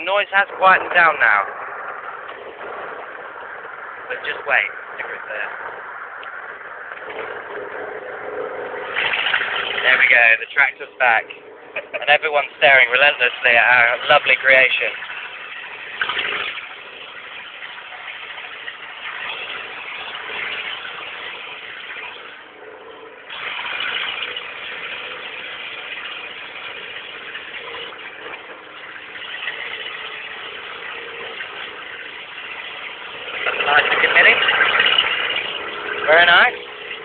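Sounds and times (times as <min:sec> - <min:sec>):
loud unsilenced car engine: 0:00.0 - 0:37.0.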